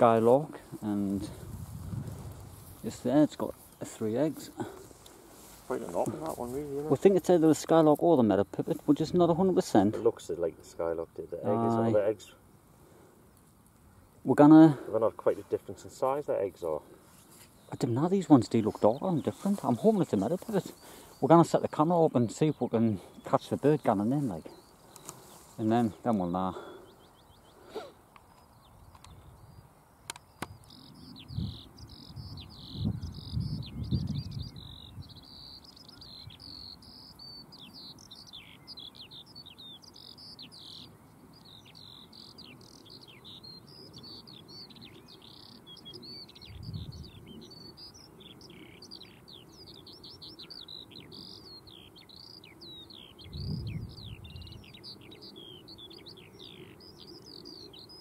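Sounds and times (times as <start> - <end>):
skylark singing: 5.7 - 12.6, 14.0 - 58.0.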